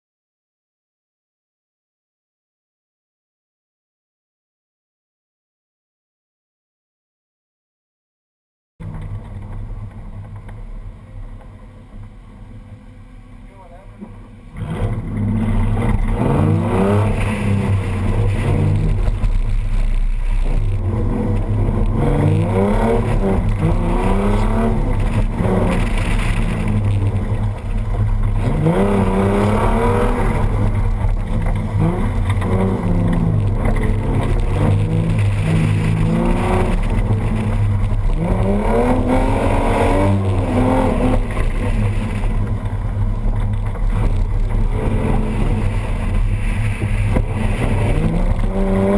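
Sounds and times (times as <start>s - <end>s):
car engine accelerating: 8.8s - 48.9s.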